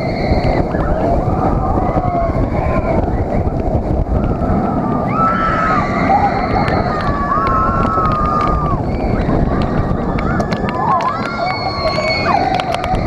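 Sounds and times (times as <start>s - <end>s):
roller coaster train rumble: 0.0s - 13.0s
wavering whine: 0.0s - 13.0s
wind rushing on microphone: 0.0s - 13.0s.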